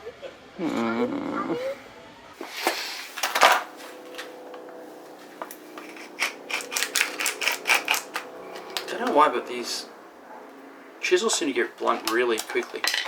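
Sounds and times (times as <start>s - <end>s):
tools scraping and clattering: 2.4s - 13.0s.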